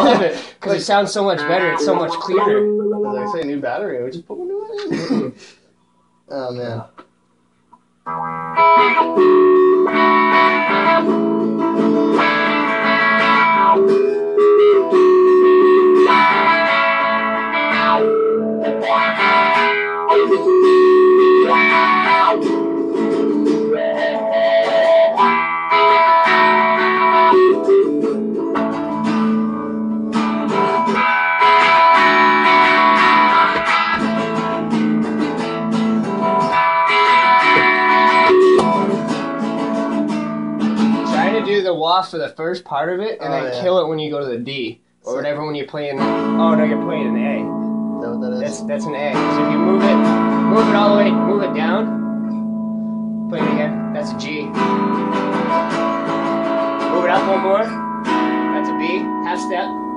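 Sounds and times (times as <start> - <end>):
electric guitar through an amp: 0.0 - 3.8, 8.0 - 41.6, 46.0 - 59.9.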